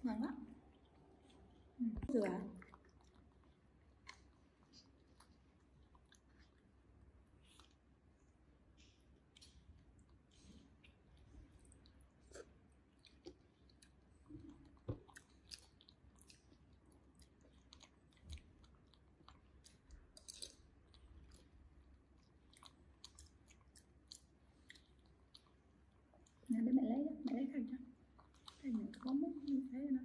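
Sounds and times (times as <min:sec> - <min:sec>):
soft chewing: 0:00.1 - 0:30.0.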